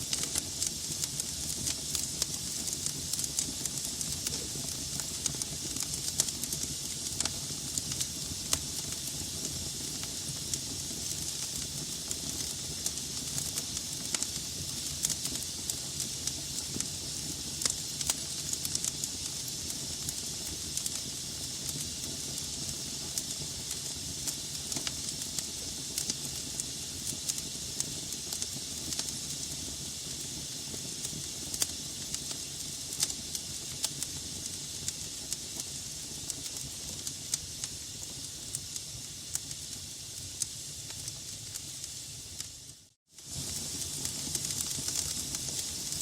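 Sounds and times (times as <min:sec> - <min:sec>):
burning logs crackling: 0:00.0 - 0:40.2, 0:43.2 - 0:46.0
fire hissing and rumbling: 0:00.0 - 0:46.0.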